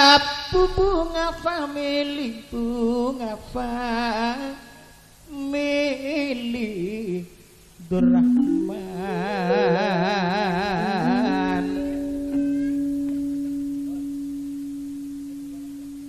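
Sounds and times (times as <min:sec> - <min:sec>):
solo voice singing ornamented melody: 0:00.0 - 0:16.0.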